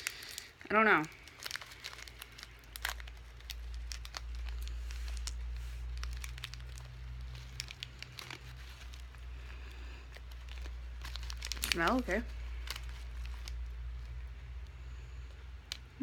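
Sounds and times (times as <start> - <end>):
packet tearing open: 0.0 - 13.7
snack packet crinkling: 0.0 - 16.0.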